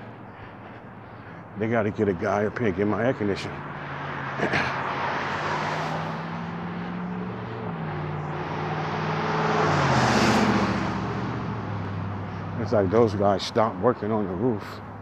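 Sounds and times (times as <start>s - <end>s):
passing vehicle engine hum: 0.0s - 15.0s.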